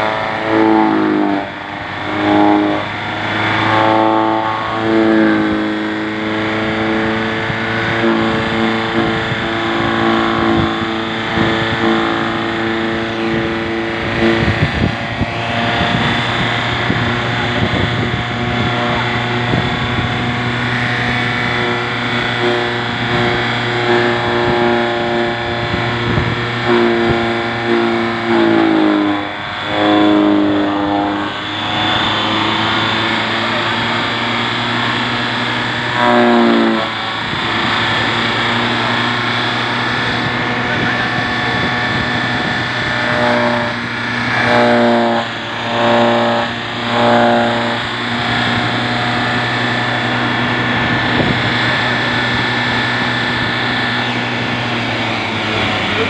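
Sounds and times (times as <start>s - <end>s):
tractor driven straw chopper: 0.0s - 56.0s.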